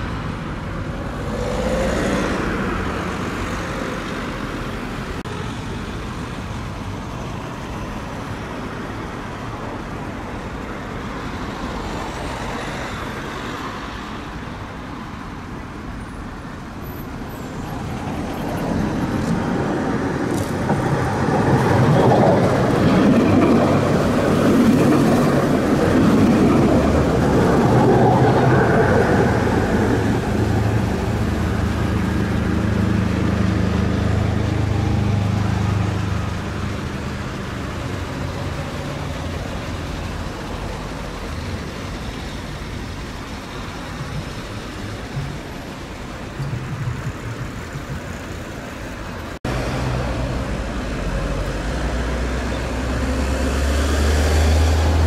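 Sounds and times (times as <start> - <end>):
road traffic: 0.0 - 55.0
tram passing close by: 0.0 - 55.0.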